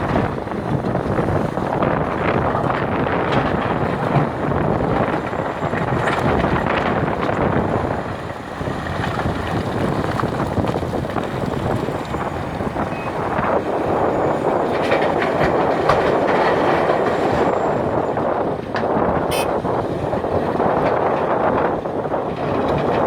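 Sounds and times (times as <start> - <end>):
excavator diesel engine rattling: 0.0 - 23.0.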